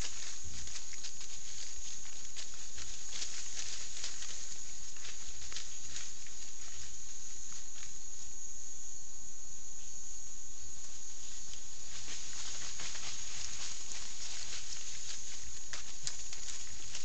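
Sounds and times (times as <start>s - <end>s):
animals rustling through dry leaves: 0.0s - 8.3s, 10.6s - 17.0s
high insect hiss: 0.0s - 17.0s.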